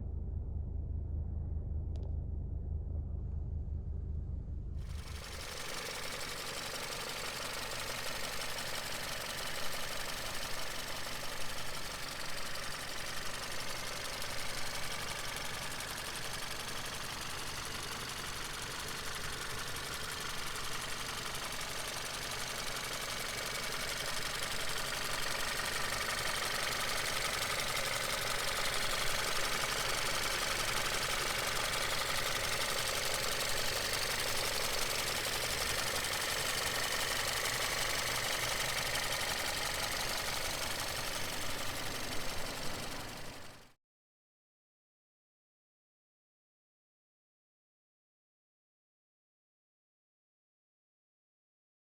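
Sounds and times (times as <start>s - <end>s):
car engine running: 0.0s - 43.6s.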